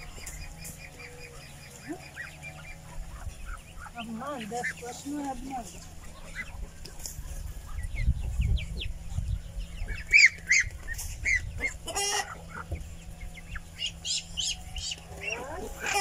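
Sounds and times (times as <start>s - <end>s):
chicks peeping: 0.0s - 16.0s
low bumps: 2.6s - 16.0s.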